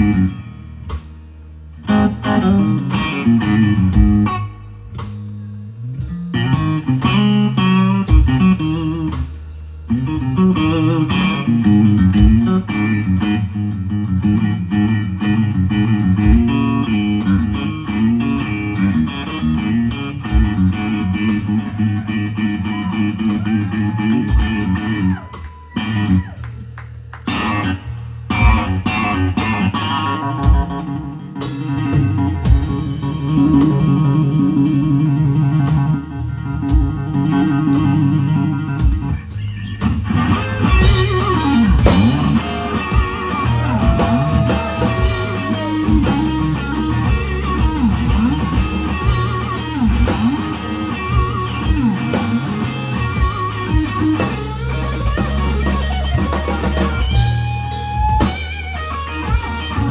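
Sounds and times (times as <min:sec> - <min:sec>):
bass: 0:00.0 - 0:59.9
drums and cymbals: 0:00.0 - 0:59.9
electric guitar lead: 0:00.0 - 0:59.9.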